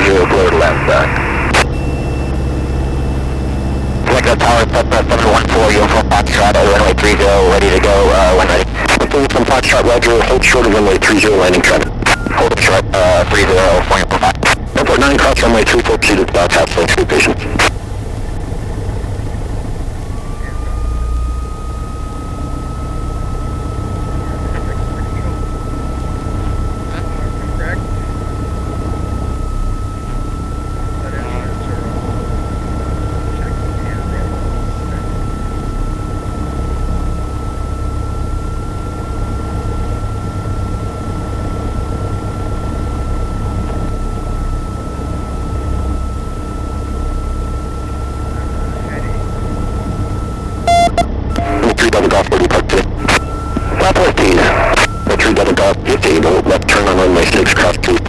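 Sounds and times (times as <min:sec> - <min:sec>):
faint thin whine: 0:00.0 - 0:58.0
plane engine and propeller drone: 0:00.0 - 0:58.0.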